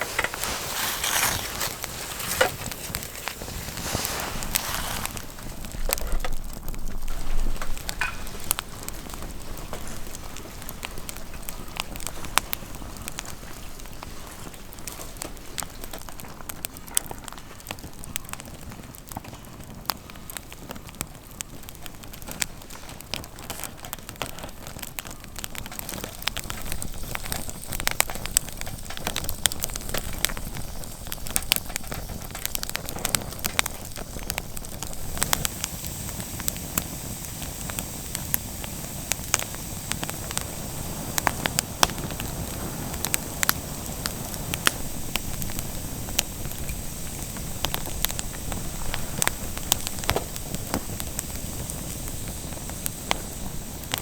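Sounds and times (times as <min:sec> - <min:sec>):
campfire crackling and popping: 0:00.0 - 0:54.0
steady fire hiss: 0:00.0 - 0:54.0.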